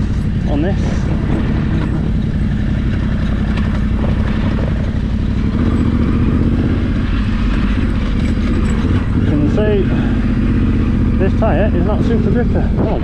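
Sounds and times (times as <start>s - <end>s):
motorcycle engine running: 0.0s - 13.0s
rough noise: 0.0s - 13.0s.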